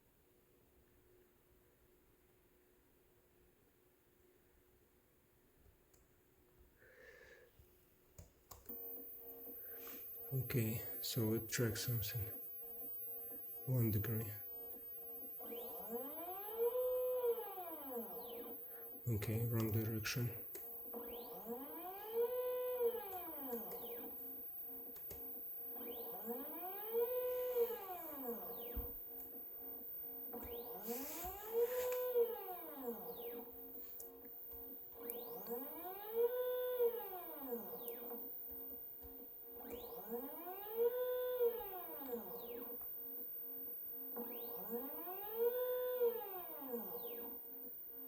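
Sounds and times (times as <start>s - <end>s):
stepper motors whining: 8.8s - 48.0s.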